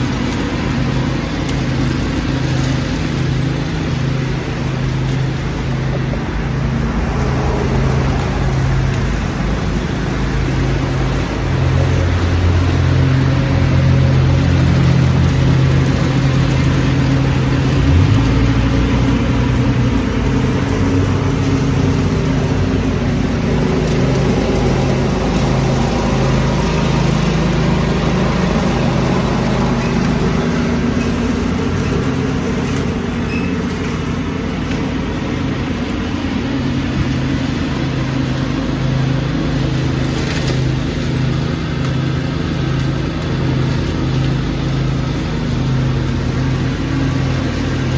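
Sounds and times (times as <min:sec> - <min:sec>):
broad rush of noise: 0:00.0 - 0:47.9
leaf vacuum engine humming: 0:00.0 - 0:47.9.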